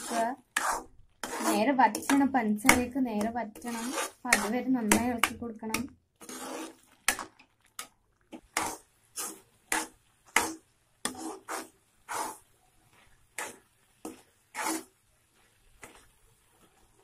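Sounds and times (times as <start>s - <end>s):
metal spatula scraping pan: 0.0s - 7.2s, 8.3s - 17.0s.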